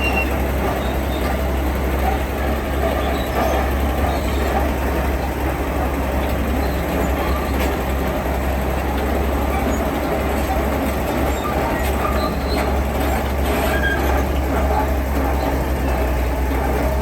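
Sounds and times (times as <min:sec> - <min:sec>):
diesel construction machine running: 0:00.0 - 0:17.0.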